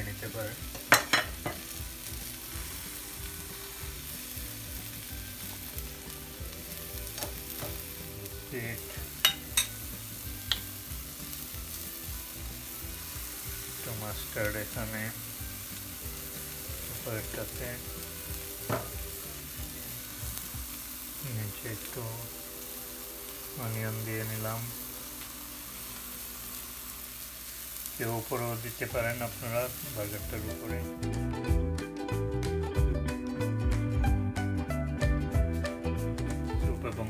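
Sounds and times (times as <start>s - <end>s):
patties sizzling on a griddle: 0.0s - 32.9s.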